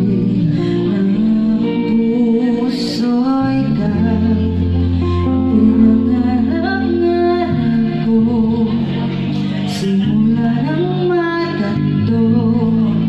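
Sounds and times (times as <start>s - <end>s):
electric guitar and bass: 0.0s - 13.0s
woman singing into microphone: 0.0s - 13.0s.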